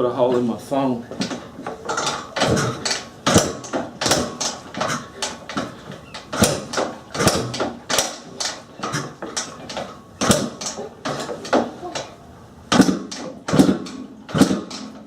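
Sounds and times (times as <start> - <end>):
motorcycle kick-start clunks: 1.2 - 15.0.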